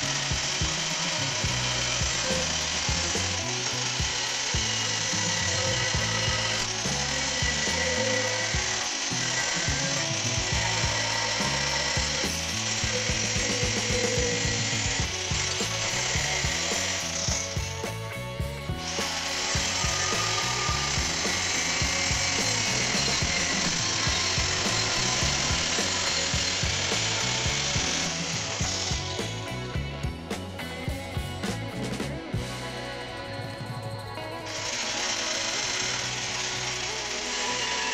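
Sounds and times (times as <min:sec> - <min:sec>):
angle grinder cutting steel: 0:00.0 - 0:33.3, 0:34.1 - 0:37.9
background music: 0:00.0 - 0:37.9.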